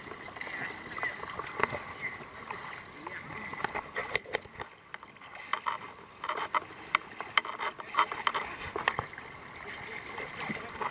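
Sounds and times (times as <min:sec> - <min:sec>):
river water splashing around raft: 0:00.0 - 0:10.9.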